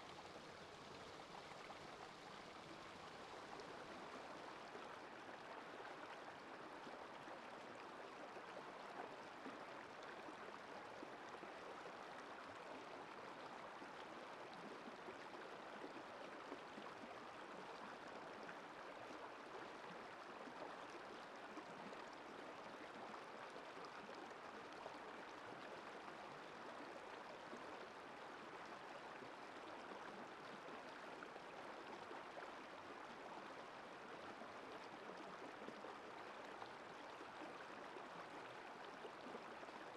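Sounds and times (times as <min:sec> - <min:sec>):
faint rush of river water: 0:00.0 - 0:39.9.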